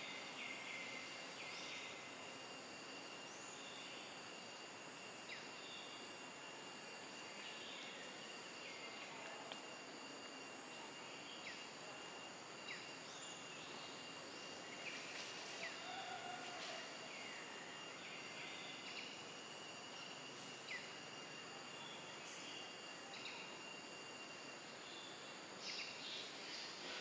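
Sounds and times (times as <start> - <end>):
high insect drone: 0.0 - 27.0
soft background hiss: 0.0 - 27.0.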